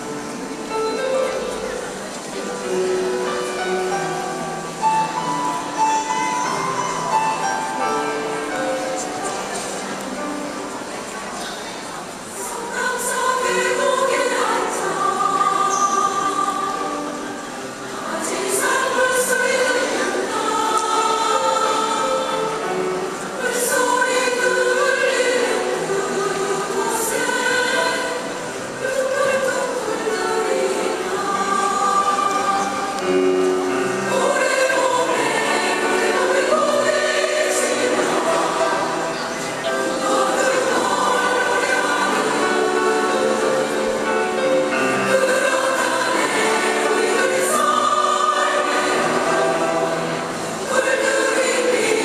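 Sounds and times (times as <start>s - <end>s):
women's choir singing in harmony: 0.0s - 52.0s.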